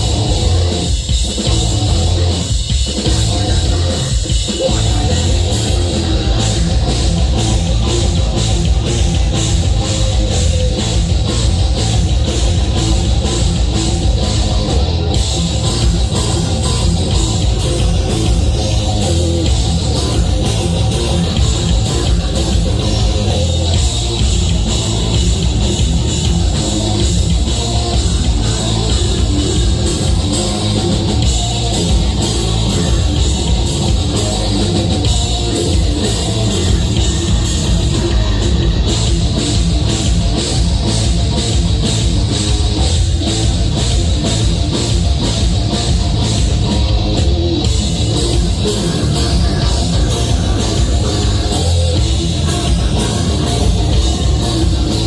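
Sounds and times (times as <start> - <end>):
bass guitar: 0.0 - 55.0
distorted guitars: 0.0 - 55.0
pounding drum kit: 0.0 - 55.0.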